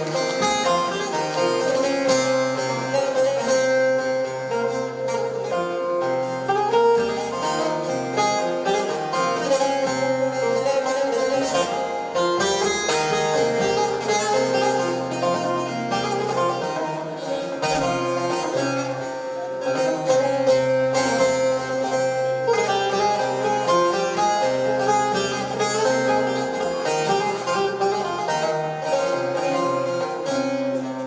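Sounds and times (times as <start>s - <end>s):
plucked long-necked lute: 0.0s - 31.0s.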